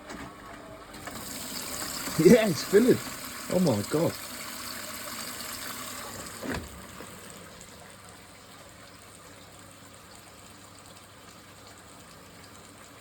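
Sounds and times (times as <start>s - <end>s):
water rushing into washing machine: 0.8s - 13.0s.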